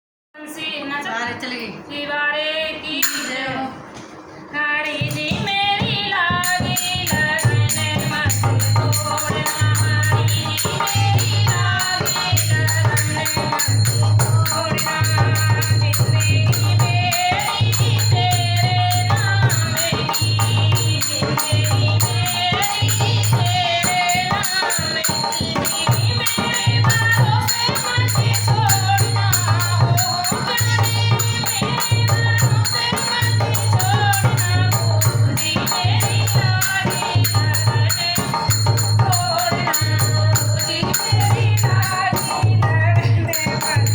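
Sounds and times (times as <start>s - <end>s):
voices singing devotional song: 0.4s - 43.9s
rattling percussion: 3.0s - 3.8s, 4.8s - 43.9s
pulsing drum beat: 5.0s - 43.9s.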